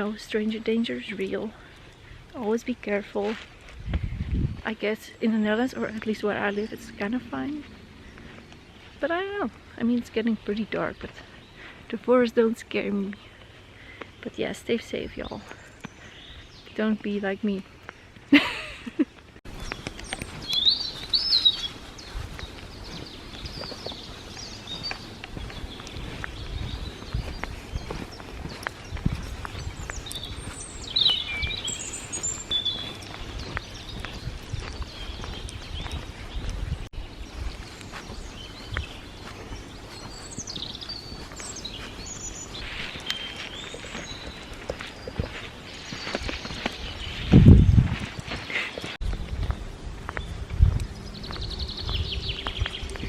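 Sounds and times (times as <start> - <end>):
footsteps on forest path: 0.0 - 53.0
birds singing: 4.7 - 53.0.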